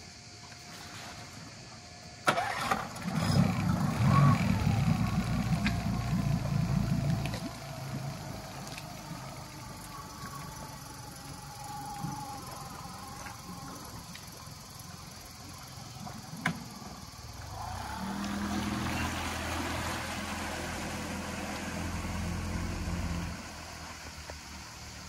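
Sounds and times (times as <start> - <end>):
engine starting and idling: 2.2 - 25.0.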